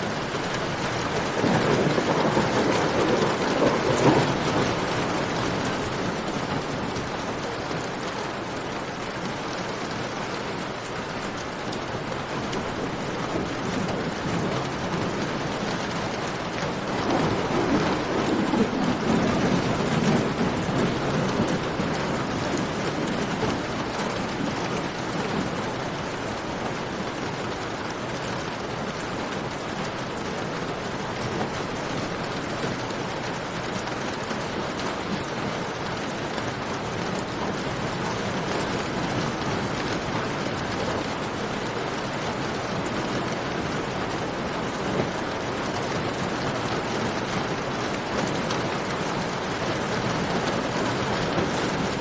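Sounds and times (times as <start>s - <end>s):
faint campfire crackles: 0.0s - 52.0s
steady rain falling: 0.0s - 52.0s
thunder rumbling: 0.0s - 52.0s.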